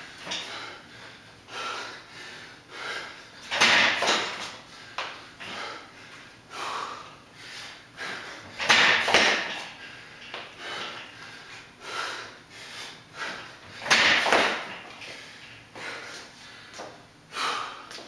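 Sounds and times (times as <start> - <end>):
man gasping breathing: 0.2 - 3.6, 4.2 - 18.0.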